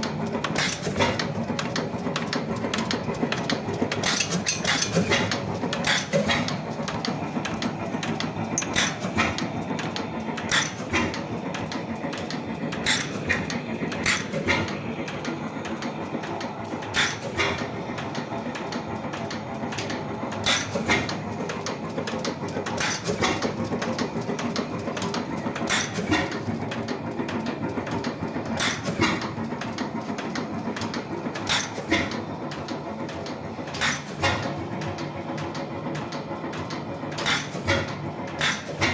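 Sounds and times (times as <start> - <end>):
oil engine clattering with beats: 0.0 - 38.9.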